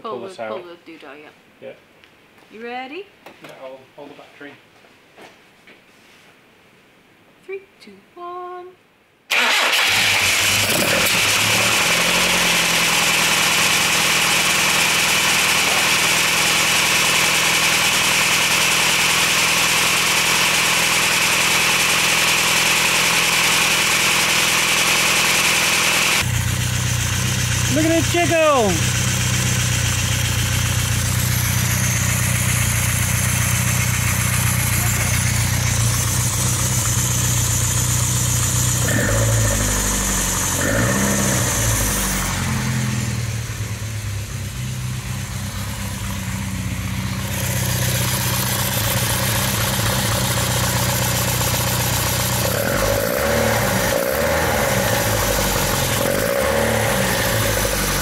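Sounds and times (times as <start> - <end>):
engine revving: 9.3 - 58.0
car engine idling: 9.4 - 58.0.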